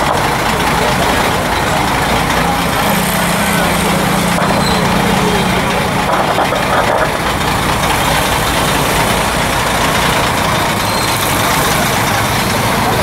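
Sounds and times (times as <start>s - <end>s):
engine running steadily: 0.0s - 13.0s
loud even background noise: 0.0s - 13.0s.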